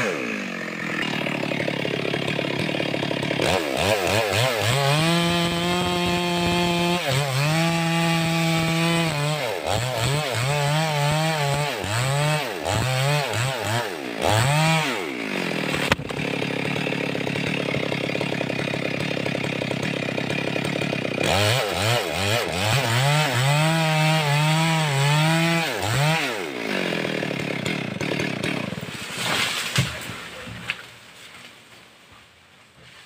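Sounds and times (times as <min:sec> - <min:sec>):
chainsaw revving and cutting: 0:00.0 - 0:30.9.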